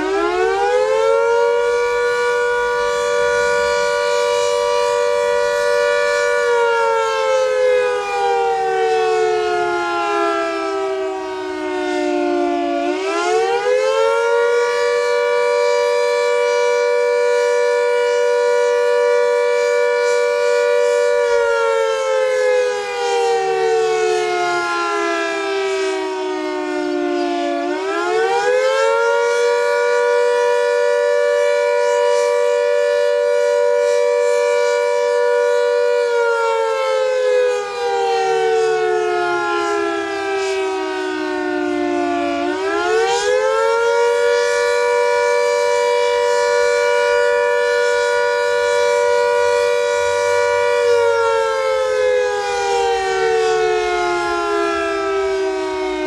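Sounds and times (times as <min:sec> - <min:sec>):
emergency warning siren wailing: 0:00.0 - 0:56.0.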